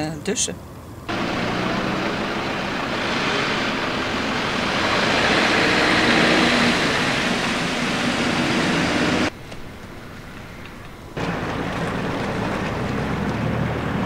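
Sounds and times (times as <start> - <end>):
cars driving past: 0.9 - 14.0.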